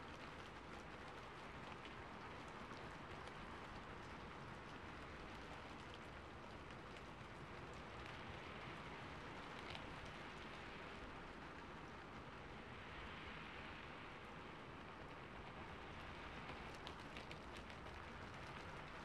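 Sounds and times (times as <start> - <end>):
raindrop ticks: 0.0 - 19.0
steady rain falling: 0.0 - 19.0.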